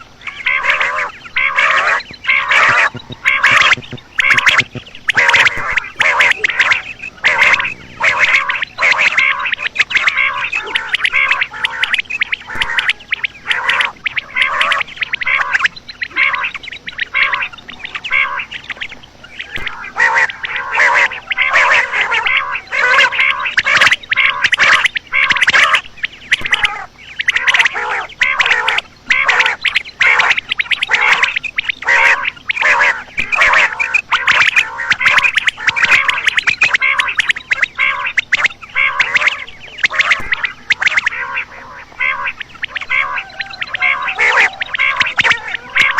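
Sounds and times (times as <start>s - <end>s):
quail calling: 0.0s - 45.9s.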